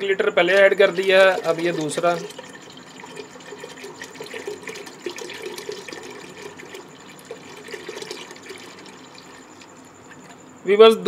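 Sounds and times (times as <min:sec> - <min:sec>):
milk pouring into metal pot: 0:00.4 - 0:10.2.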